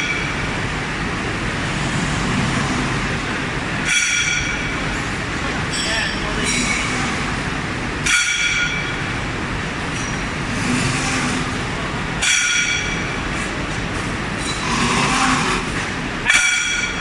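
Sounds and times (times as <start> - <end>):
machinery running with hiss: 0.0 - 17.0.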